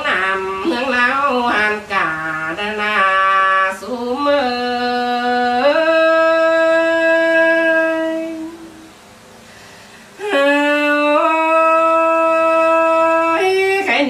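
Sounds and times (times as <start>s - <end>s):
woman singing unaccompanied: 0.0s - 9.0s, 10.2s - 14.0s.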